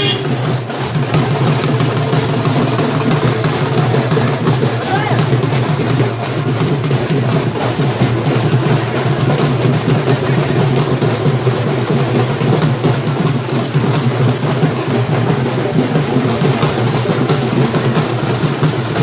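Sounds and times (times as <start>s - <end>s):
drums beaten in fast rhythm: 0.0s - 19.0s.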